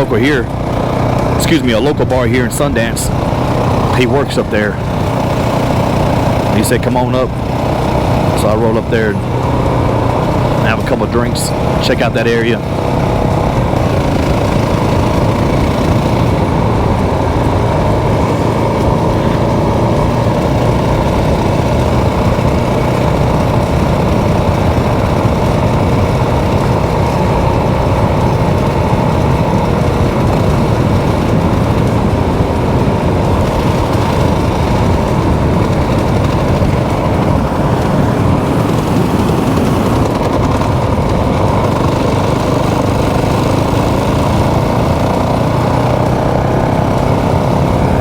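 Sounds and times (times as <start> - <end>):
motorcycle engine running: 0.0 - 48.0
rushing riding noise: 0.0 - 48.0.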